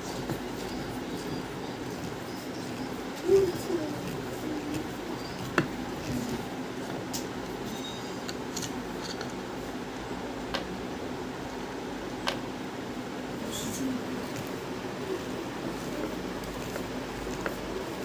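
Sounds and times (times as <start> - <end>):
ceiling fan humming: 0.0 - 18.0.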